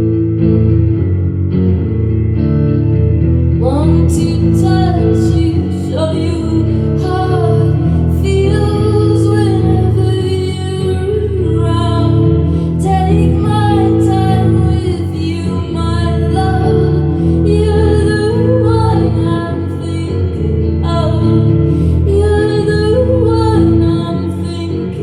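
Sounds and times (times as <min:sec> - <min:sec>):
guitar chords: 0:00.0 - 0:25.0
woman singing: 0:03.6 - 0:25.0.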